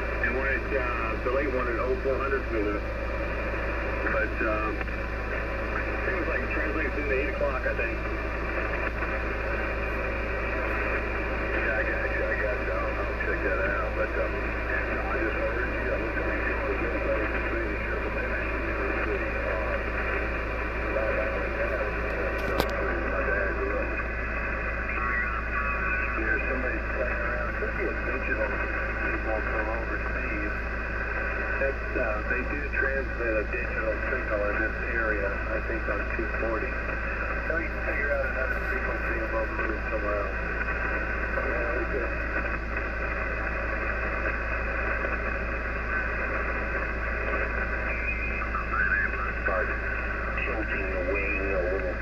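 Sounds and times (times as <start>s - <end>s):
low hum: 0.0s - 52.0s
muffled radio voices: 0.0s - 52.0s
radio static hiss: 0.0s - 52.0s.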